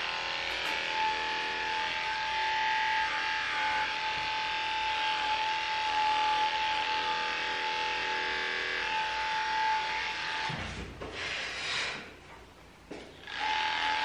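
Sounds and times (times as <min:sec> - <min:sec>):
electric clippers humming: 0:00.0 - 0:10.5, 0:13.2 - 0:14.0.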